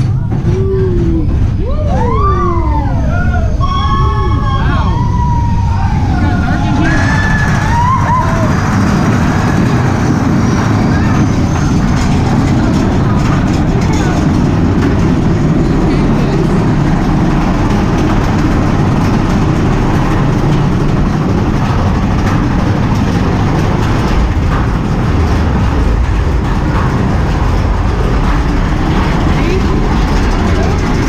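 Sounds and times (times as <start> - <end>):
roller coaster rumbling on track: 0.0 - 31.0.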